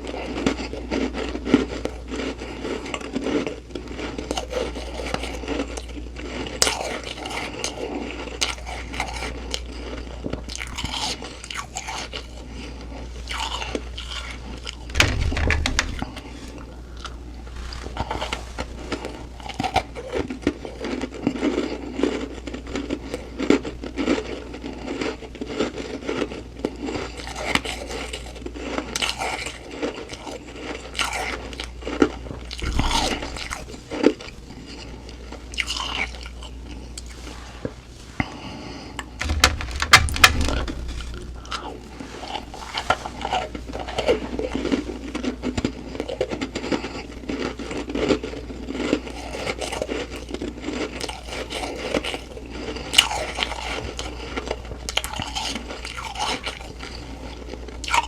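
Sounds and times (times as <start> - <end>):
chewing crunchy ice: 0.0 - 15.0, 16.0 - 39.2, 40.4 - 58.0.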